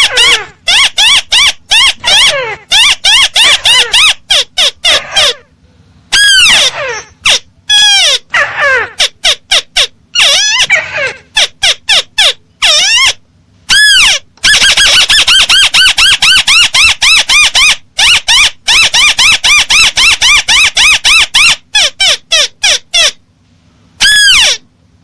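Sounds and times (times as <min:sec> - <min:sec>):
crake calling: 0:00.0 - 0:23.2, 0:24.0 - 0:24.7.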